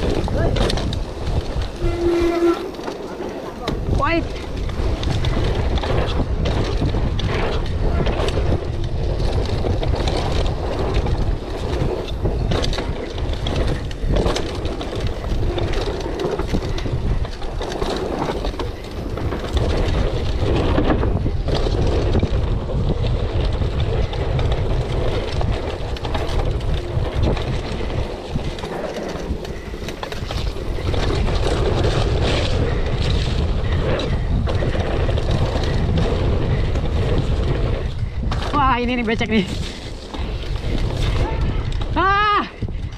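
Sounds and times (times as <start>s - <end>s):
bike knocking and rattling: 0.0s - 42.9s
wind buffeting microphone: 0.0s - 42.9s.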